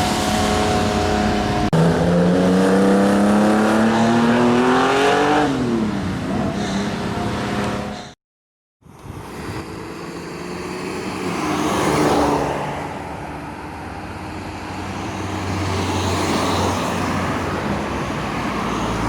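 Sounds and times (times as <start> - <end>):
cars passing by: 0.0 - 8.2, 8.8 - 19.0.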